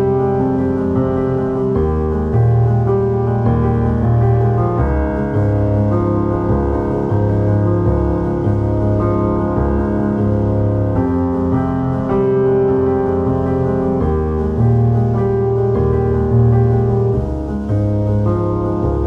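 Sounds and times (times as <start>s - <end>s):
slow held chords: 0.0s - 19.0s.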